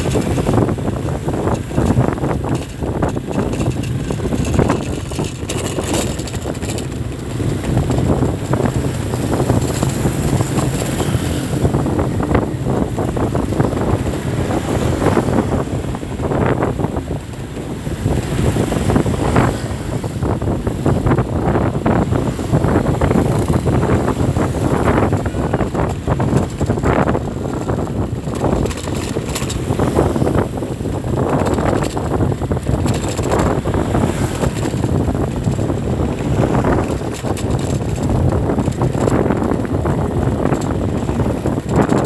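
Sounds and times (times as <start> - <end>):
road traffic noise: 0.0 - 42.0
wind buffeting the microphone: 0.0 - 42.0.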